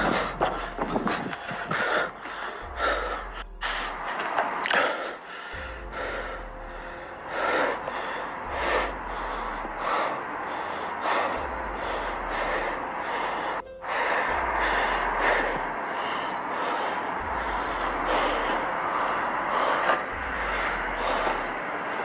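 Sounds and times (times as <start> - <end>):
heavy breathing: 0.0 - 22.0.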